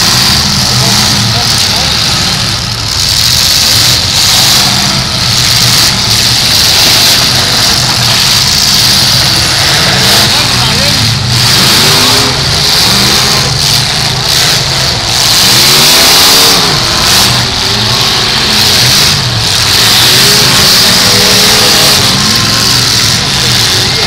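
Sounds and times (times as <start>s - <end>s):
car engines revving hard: 0.0s - 24.0s.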